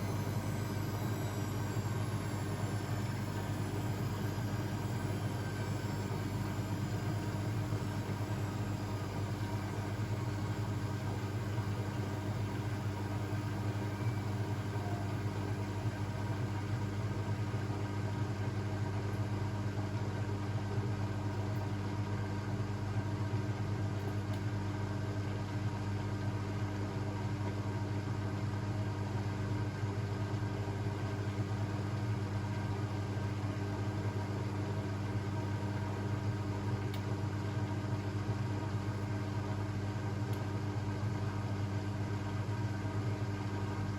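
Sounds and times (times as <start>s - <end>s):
washing machine humming: 0.0s - 43.9s.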